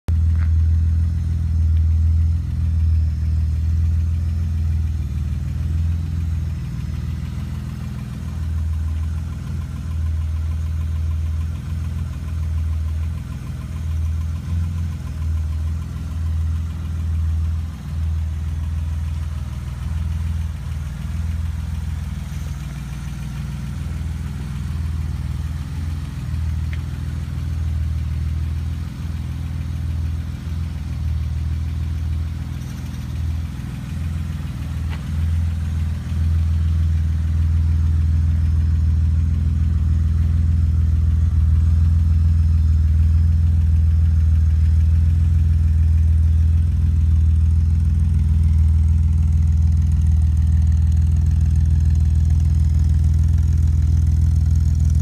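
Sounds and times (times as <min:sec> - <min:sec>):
car engine idling: 0:00.1 - 0:55.0.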